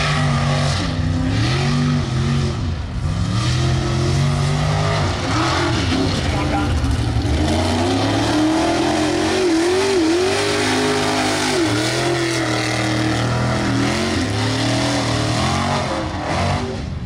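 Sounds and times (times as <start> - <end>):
truck engines revving hard: 0.0 - 17.0.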